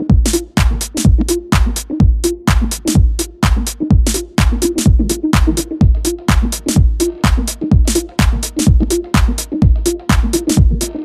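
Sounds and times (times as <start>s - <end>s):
electronic house music: 0.0s - 11.0s
hi-hat hits: 0.0s - 11.0s
kick drum: 0.0s - 11.0s.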